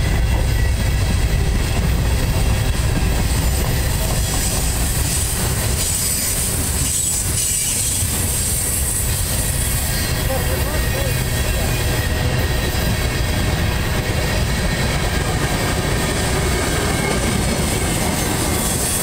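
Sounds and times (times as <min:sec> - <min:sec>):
freight car wheels rumbling on rail: 0:00.0 - 0:19.0
high wheel squeal: 0:00.0 - 0:19.0.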